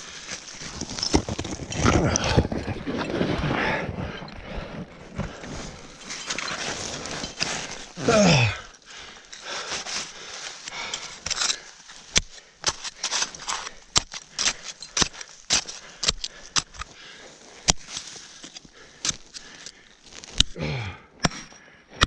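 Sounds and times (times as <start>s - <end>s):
ice axes planted into snow: 0.0s - 3.9s, 4.7s - 8.4s, 9.2s - 16.9s, 17.6s - 20.6s
crampons scraping on snow and rock: 0.0s - 20.5s.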